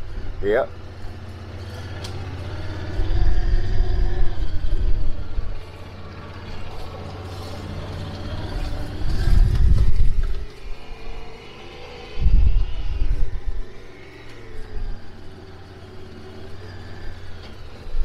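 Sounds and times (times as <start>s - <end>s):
utility vehicle engine running: 0.0s - 18.0s.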